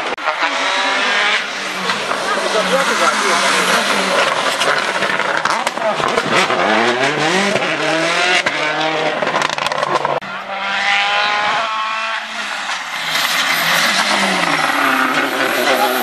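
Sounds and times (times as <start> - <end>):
rally car engine revving hard: 0.0 - 16.0.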